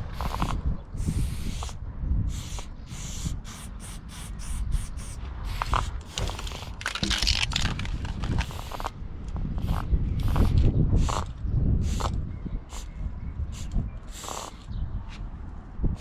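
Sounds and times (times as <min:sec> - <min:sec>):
spray paint can hissing: 0:00.0 - 0:08.9, 0:09.6 - 0:12.9, 0:13.6 - 0:14.7.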